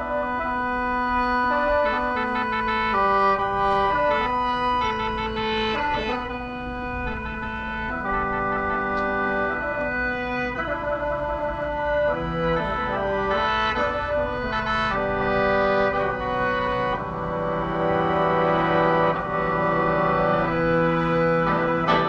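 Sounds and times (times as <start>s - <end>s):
bamboo mouth organ melody: 0.0s - 22.0s.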